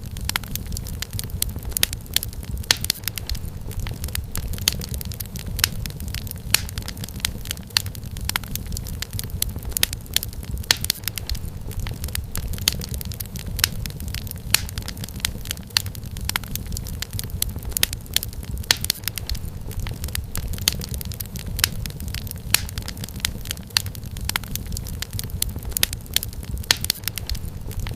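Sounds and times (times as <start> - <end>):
wood fire crackling: 0.0 - 27.9.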